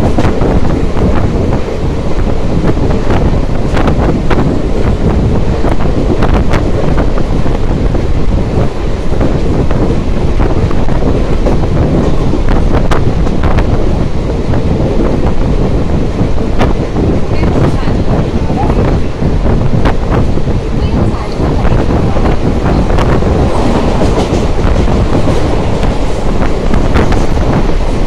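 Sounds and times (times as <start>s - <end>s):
train rumbling on track: 0.0s - 28.0s
wind buffeting microphone: 0.0s - 28.0s.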